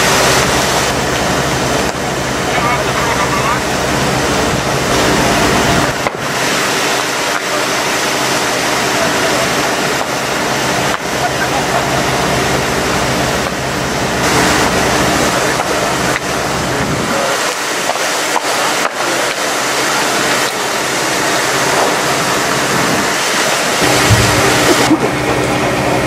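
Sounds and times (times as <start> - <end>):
fire engine drone: 0.0 - 26.0
fire hose water jets rushing: 0.0 - 26.0.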